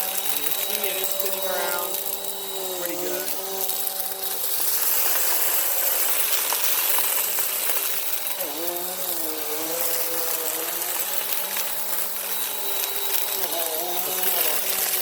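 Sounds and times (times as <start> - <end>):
sand and grit rattling: 0.0 - 15.0
upright vacuum running: 0.0 - 15.0.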